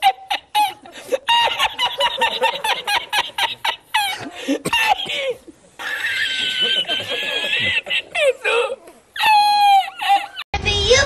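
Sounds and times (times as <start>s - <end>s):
man cackling laughter: 0.0s - 10.4s.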